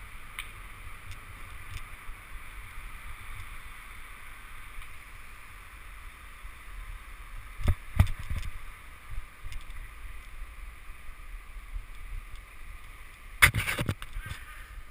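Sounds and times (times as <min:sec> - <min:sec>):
bicycle riding rumble: 0:00.0 - 0:14.9.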